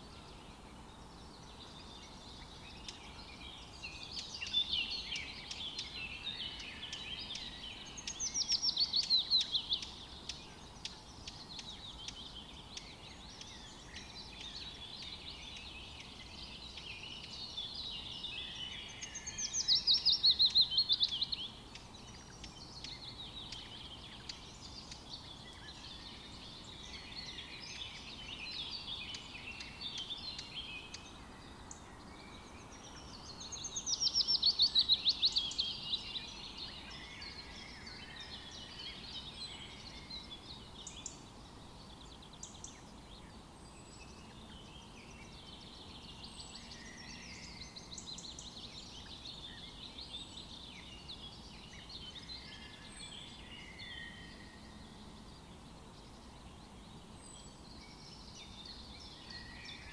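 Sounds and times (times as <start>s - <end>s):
forest ambience hiss: 0.0s - 59.9s
songbirds singing: 0.0s - 59.9s.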